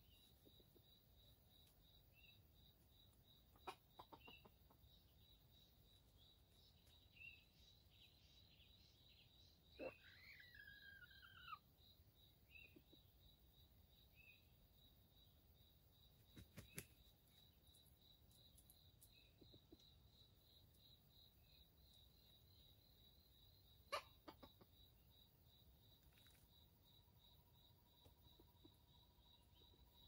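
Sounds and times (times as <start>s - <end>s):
faint bird chirps: 0.0s - 30.0s
pulsing insect chorus: 0.0s - 30.0s.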